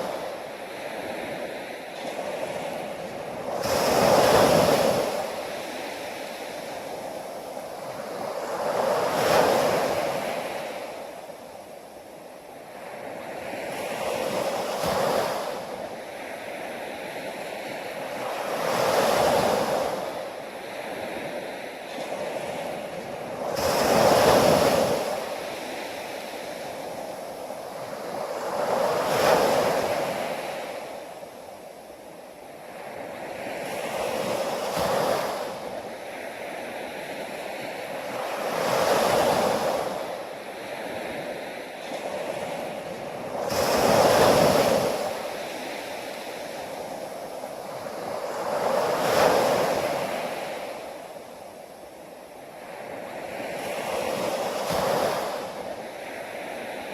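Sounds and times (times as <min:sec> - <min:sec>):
ocean waves breaking: 0:00.0 - 0:12.0, 0:12.7 - 0:56.9.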